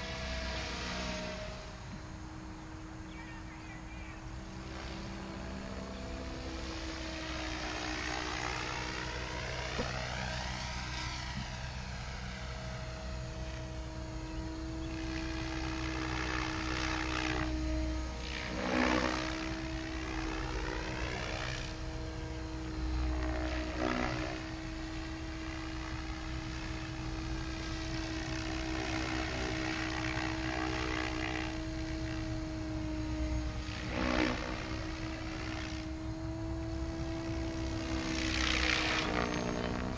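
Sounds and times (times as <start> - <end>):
radio-controlled helicopter flying: 0.0 - 39.9.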